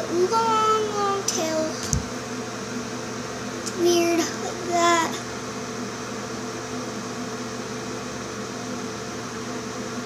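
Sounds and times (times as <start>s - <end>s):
appliance humming and hissing: 0.0s - 10.0s.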